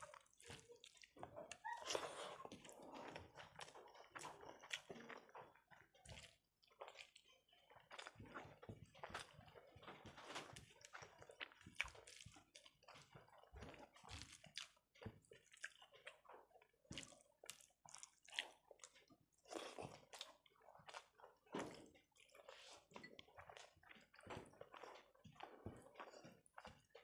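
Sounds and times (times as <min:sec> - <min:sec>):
wet chewing and lip smacks: 0:00.0 - 0:27.0.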